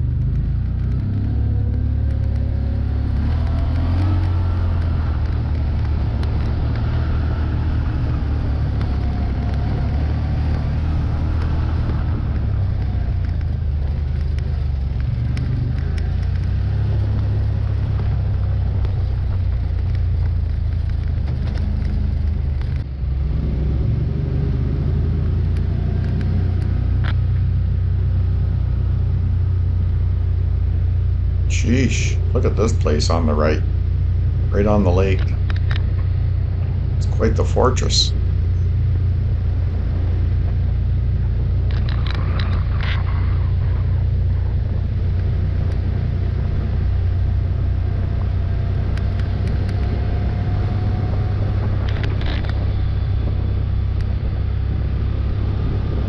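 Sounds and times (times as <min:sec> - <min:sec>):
utility vehicle engine rumble: 0:00.0 - 0:56.0.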